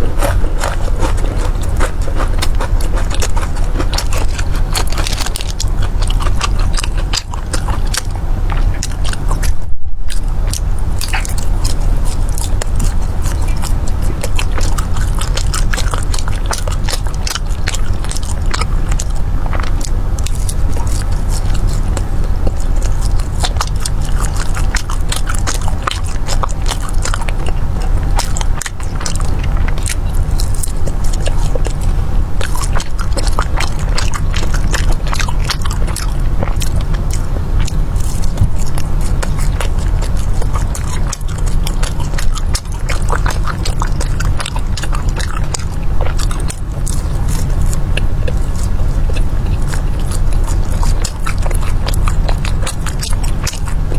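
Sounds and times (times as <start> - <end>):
crunchy chewing: 0.0 - 53.9
steady low hum: 0.0 - 53.9.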